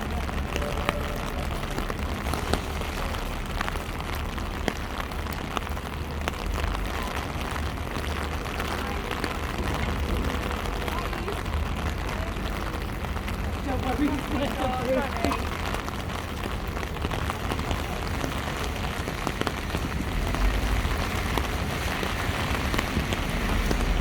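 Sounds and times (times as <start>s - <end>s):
heavy rain on hard surfaces: 0.0s - 24.0s.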